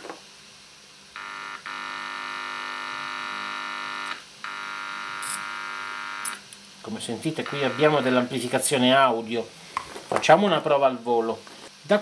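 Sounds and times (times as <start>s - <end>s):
buzzing hum from loudspeaker: 1.1s - 12.0s.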